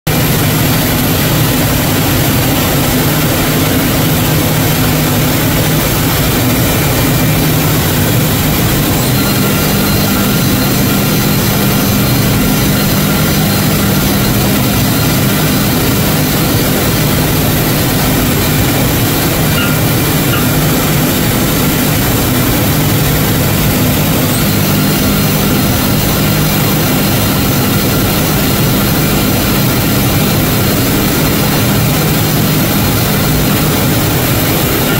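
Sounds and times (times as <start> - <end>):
cnc router cutting: 0.1 - 34.9.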